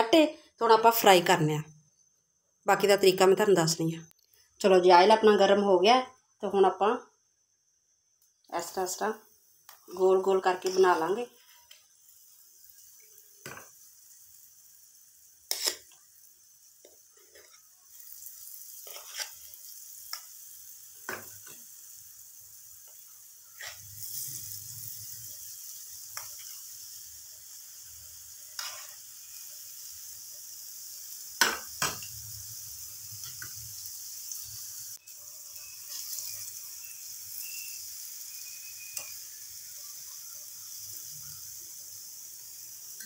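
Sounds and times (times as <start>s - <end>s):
hot oil sizzling: 7.6s - 43.0s.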